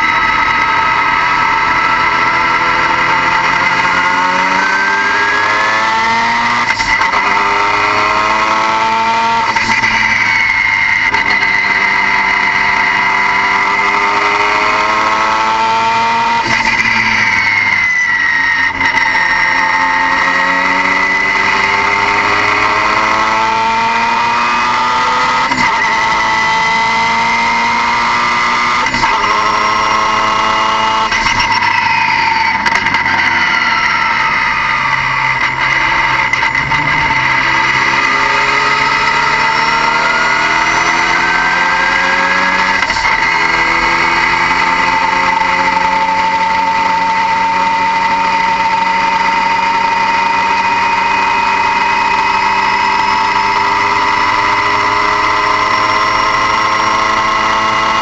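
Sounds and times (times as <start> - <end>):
car engine revving through gears: 0.0 - 58.0
high whine: 0.0 - 58.0.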